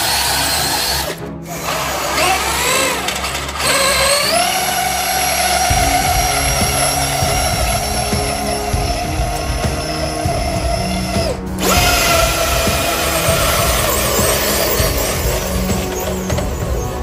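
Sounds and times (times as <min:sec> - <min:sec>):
electric motors whining: 0:00.0 - 0:17.0
rough rumble: 0:01.7 - 0:17.0.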